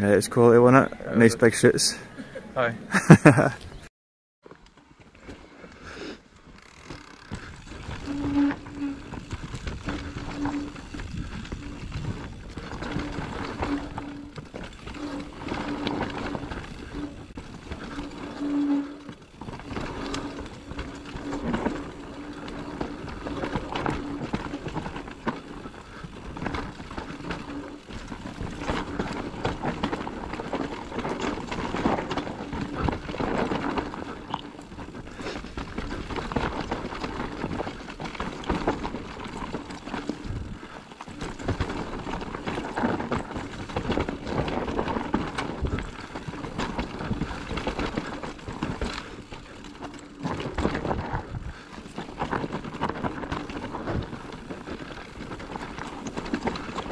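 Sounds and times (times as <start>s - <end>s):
bike tyres rattling over rocks: 4.4s - 56.9s.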